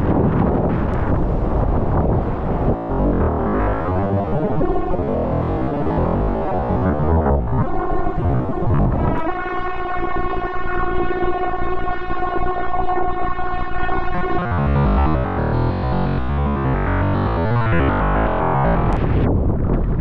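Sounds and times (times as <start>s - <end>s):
synthesizer music: 1.1s - 19.0s.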